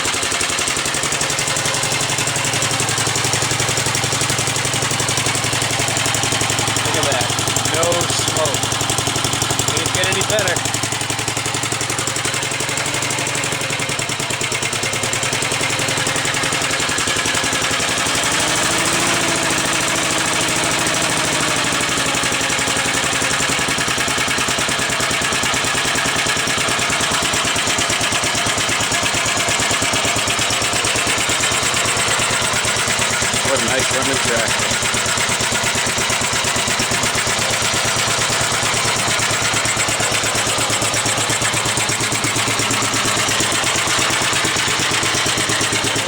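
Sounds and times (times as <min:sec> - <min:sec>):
single-cylinder engine running: 0:00.0 - 0:46.0.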